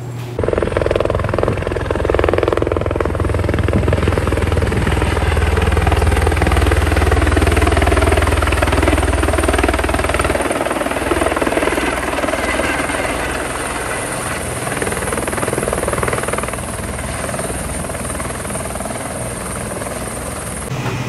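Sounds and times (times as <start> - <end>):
helicopter rotor chopping: 0.4 - 21.0.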